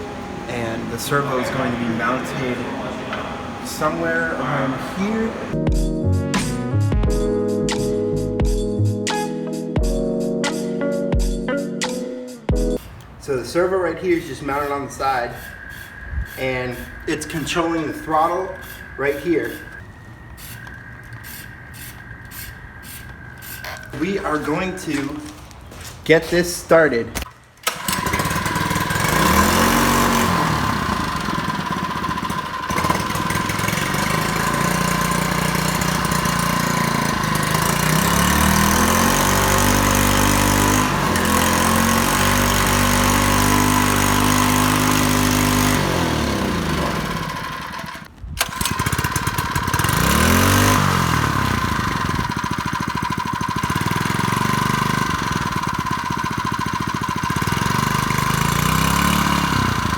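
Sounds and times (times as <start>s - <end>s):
small engine idling and revving: 0.0s - 5.6s, 14.1s - 24.6s, 27.6s - 59.9s.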